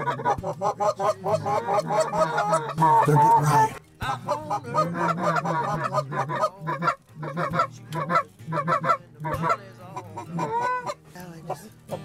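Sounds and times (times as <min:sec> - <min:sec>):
goose clucks and honks: 0:00.0 - 0:12.0.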